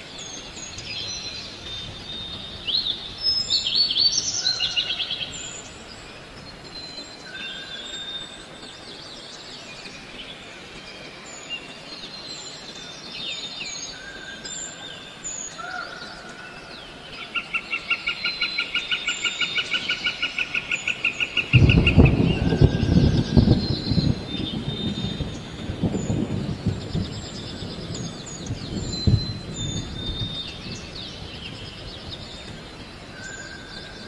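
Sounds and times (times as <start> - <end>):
birds chirping and whistling: 0.1 - 34.0.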